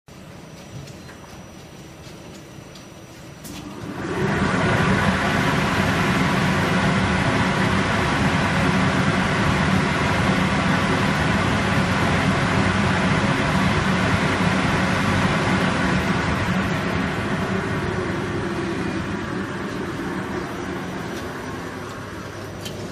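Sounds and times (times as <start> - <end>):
machinery running with low hum: 0.1 - 22.9.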